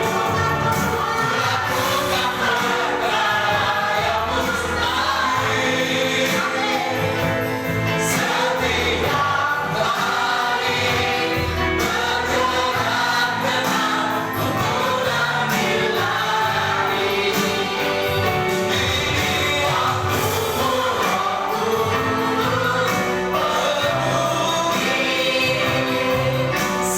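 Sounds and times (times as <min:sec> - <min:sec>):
band playing worship music: 0:00.0 - 0:26.9
choir singing gospel song: 0:00.0 - 0:26.9.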